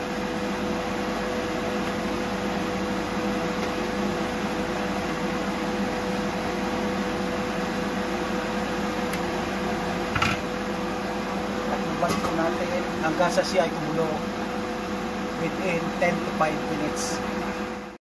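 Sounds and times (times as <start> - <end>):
fan motor hum: 0.0 - 18.0.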